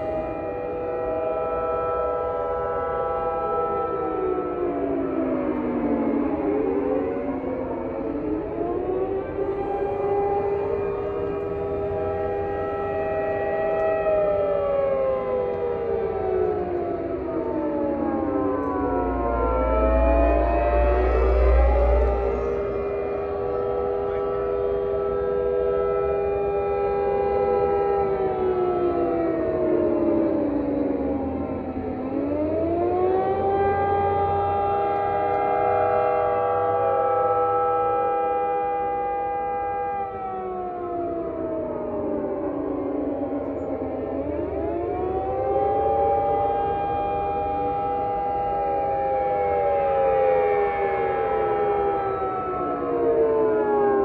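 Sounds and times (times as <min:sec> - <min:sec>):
warning siren: 0:00.0 - 0:54.0.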